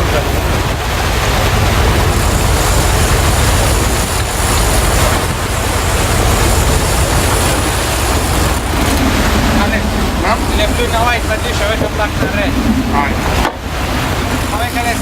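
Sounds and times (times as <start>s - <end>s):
boat engine drone: 0.0s - 15.0s
rush of wind and sea: 0.0s - 15.0s.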